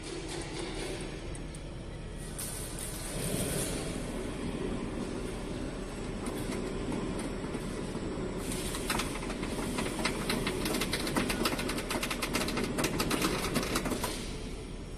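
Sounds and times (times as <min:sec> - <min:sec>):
sheet-metal machine rumbling: 0:00.0 - 0:14.9.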